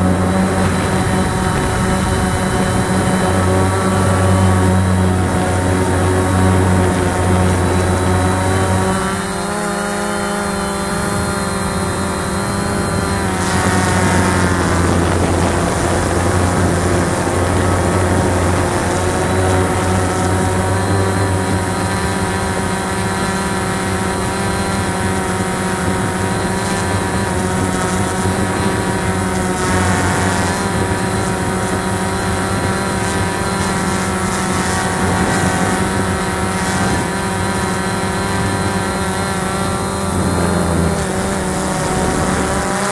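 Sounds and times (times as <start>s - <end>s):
quadcopter motors and propellers: 0.0s - 42.9s.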